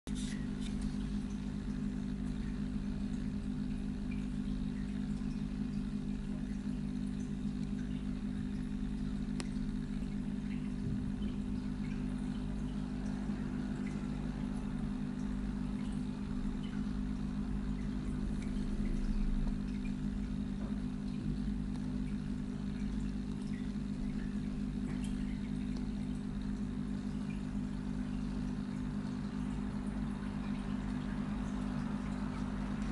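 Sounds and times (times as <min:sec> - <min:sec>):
aquarium filter pump humming: 0:00.0 - 0:32.9
faint trickle of water: 0:00.1 - 0:32.9.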